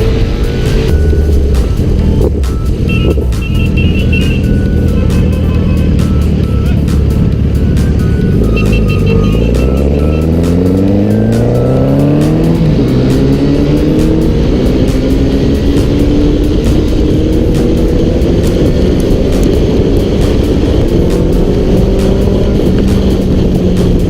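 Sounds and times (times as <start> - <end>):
motorcycle engine accelerating: 0.0 - 24.0
wind noise: 0.0 - 24.0.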